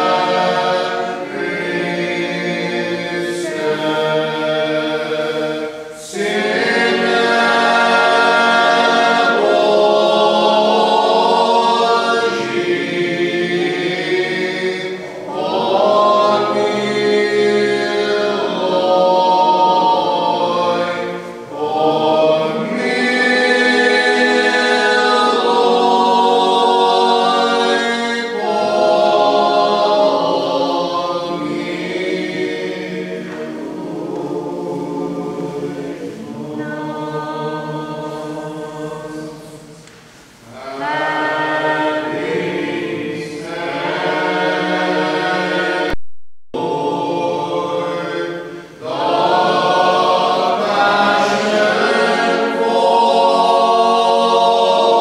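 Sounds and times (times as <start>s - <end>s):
choir singing unaccompanied chant: 0.0s - 46.0s, 46.6s - 55.0s.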